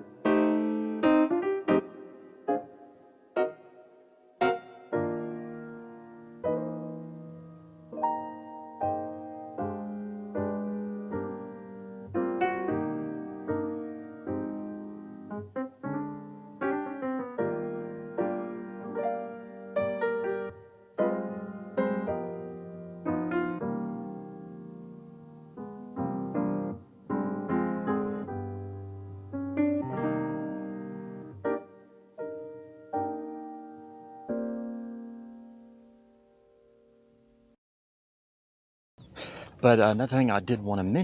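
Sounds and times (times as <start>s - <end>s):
gentle piano piece: 0.0s - 37.6s.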